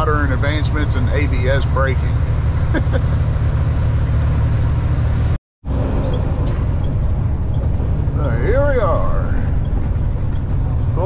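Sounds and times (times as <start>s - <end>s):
diesel engine drone: 0.0s - 11.0s
road noise inside cab: 0.0s - 11.0s.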